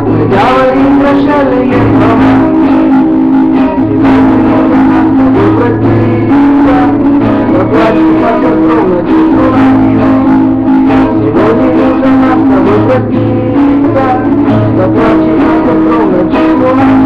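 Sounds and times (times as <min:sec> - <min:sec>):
held bass and keyboard tones: 0:00.0 - 0:17.0
strummed guitar: 0:00.0 - 0:17.0
wavering melody line: 0:00.0 - 0:17.0.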